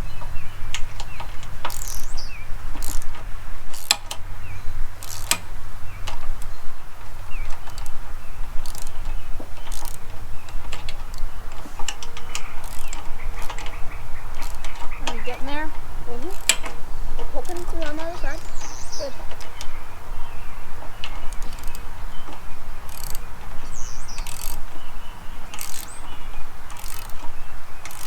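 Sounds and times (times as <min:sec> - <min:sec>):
bird chirps: 0:00.0 - 0:03.2, 0:04.2 - 0:28.0
steady low rumble: 0:00.0 - 0:26.7
ratchet clicking: 0:00.7 - 0:04.2, 0:05.0 - 0:06.6, 0:07.5 - 0:19.8, 0:21.0 - 0:24.7, 0:25.5 - 0:28.0.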